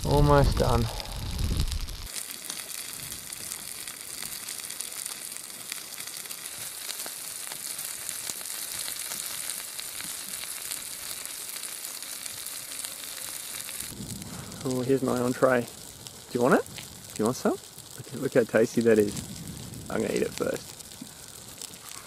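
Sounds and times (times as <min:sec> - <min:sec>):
fish frying with crackling sizzle: 0:00.0 - 0:22.0.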